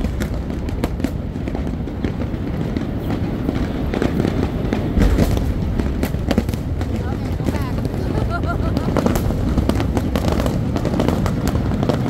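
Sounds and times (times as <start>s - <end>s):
firework cracks and pops: 0.0s - 12.0s
low rumble of firework booms: 0.0s - 12.0s.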